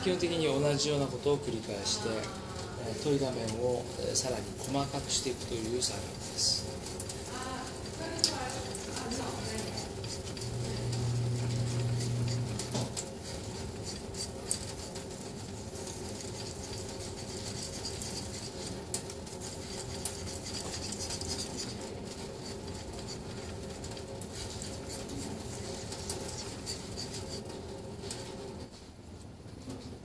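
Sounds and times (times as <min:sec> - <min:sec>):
knife scraping on whetstone: 0:02.9 - 0:27.6.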